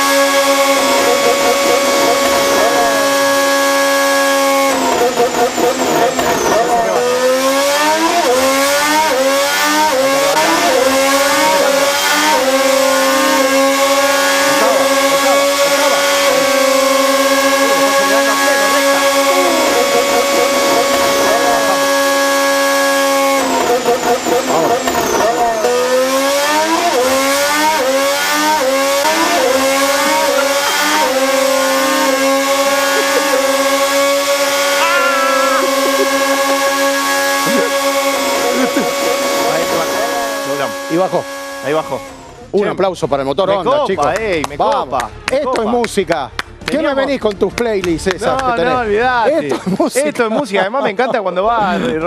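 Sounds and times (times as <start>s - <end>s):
racing car engine running hard: 0.0s - 49.2s.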